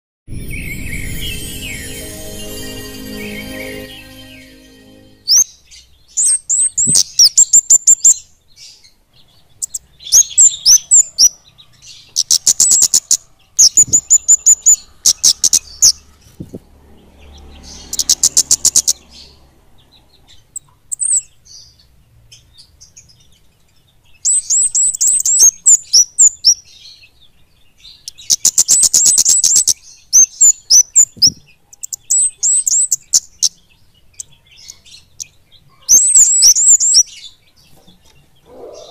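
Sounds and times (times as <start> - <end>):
birds singing high trills: 0.3 - 38.9.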